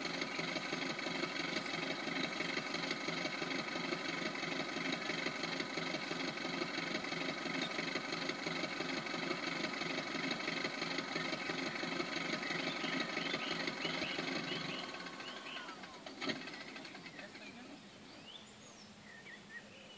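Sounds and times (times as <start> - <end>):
recorded plane engine idling: 0.0 - 19.9.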